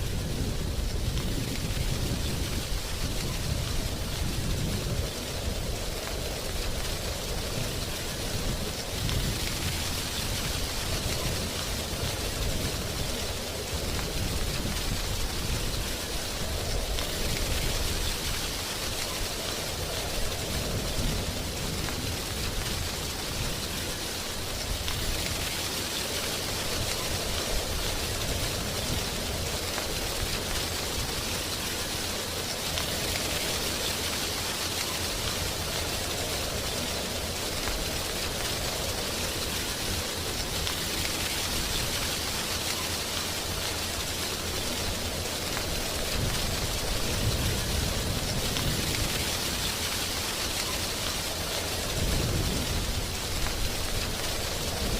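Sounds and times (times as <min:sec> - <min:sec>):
wind rustling dry leaves: 0:00.0 - 0:54.9.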